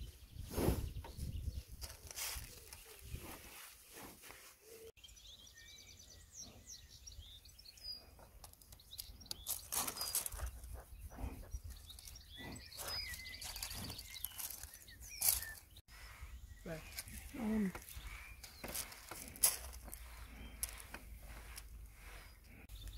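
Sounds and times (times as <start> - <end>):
small birds chirping: 0.0 - 22.9
rustling and scraping: 0.5 - 4.9, 8.0 - 22.9.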